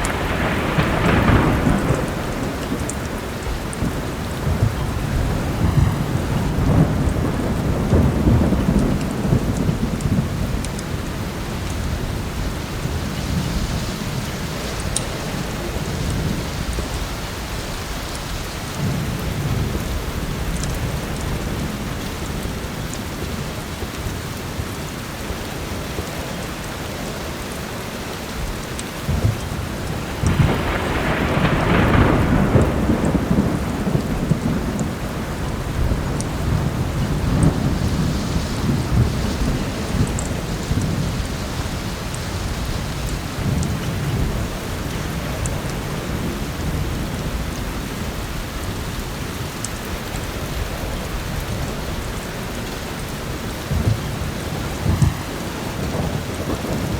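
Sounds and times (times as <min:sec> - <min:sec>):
thunder rumbling: 0:00.0 - 0:26.8, 0:28.3 - 0:56.9
heavy rain falling: 0:00.0 - 0:56.9.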